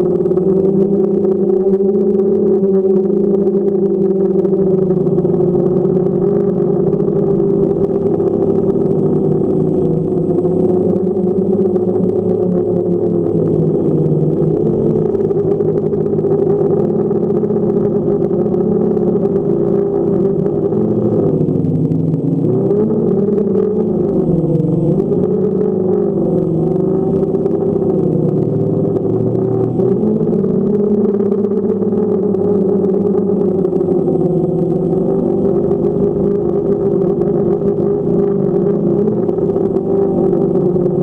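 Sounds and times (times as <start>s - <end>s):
drone propellers humming: 0.0s - 41.0s.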